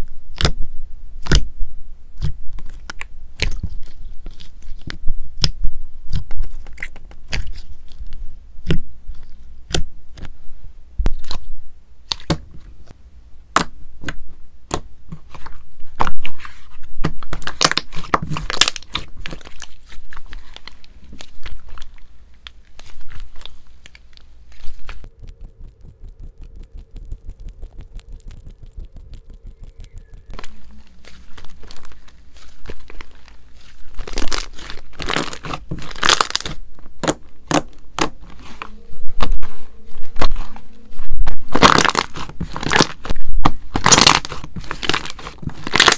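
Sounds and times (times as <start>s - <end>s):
slime crackling and popping: 0.3s - 0.6s, 1.2s - 1.5s, 2.2s - 10.3s, 11.1s - 12.5s, 13.5s - 45.9s.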